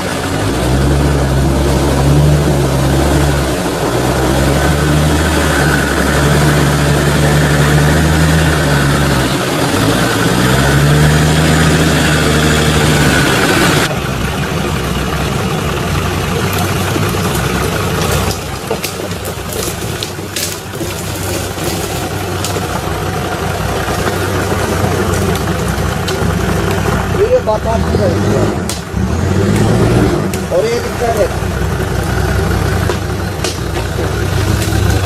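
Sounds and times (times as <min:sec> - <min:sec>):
off-road vehicle engine running: 0:00.0 - 0:35.0
rough quieter engine noise: 0:00.0 - 0:35.0.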